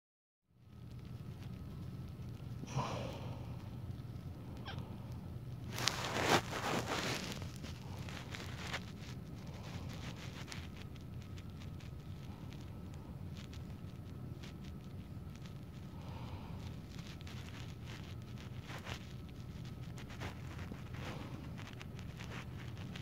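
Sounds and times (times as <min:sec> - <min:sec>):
low hum: 0:00.5 - 0:23.0
soft rustling: 0:00.6 - 0:23.0.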